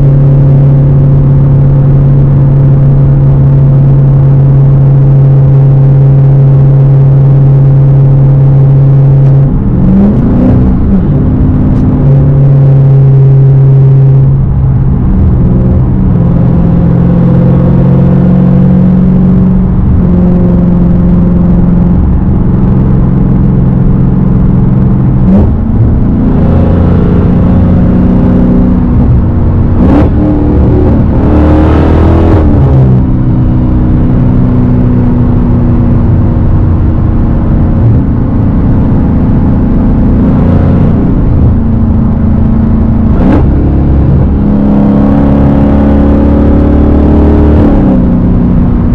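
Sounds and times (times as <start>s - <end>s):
loud car engine revving: 0.0s - 48.9s.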